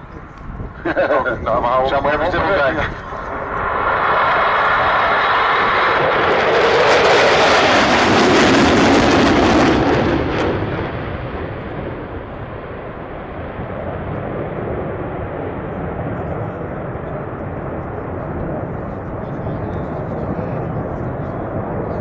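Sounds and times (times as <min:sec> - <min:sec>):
jet aircraft flying past: 0:00.0 - 0:22.0.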